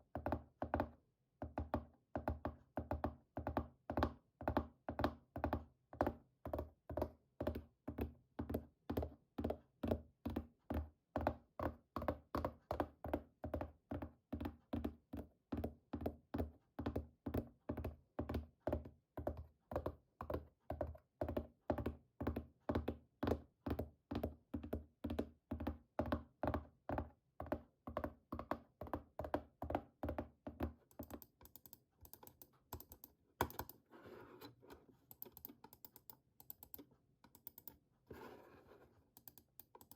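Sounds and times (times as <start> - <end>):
fingertip tapping on hard object: 0.1 - 33.7.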